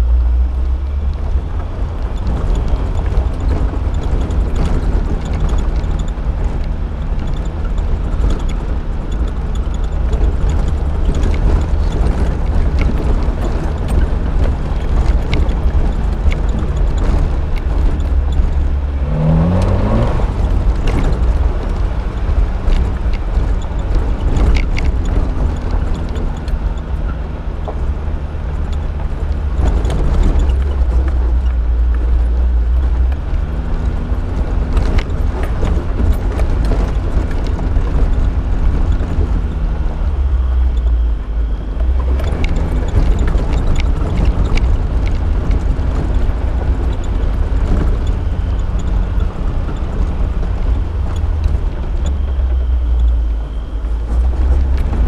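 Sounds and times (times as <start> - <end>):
car engine rumbling: 0.0 - 55.0
body knocks and rattles: 0.2 - 55.0.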